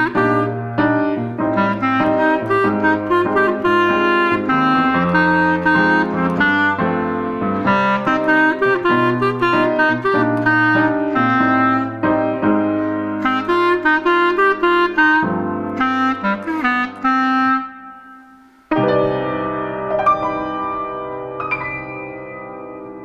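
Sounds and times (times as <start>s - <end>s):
woodwind playing: 0.0s - 18.7s
piano: 0.0s - 23.0s.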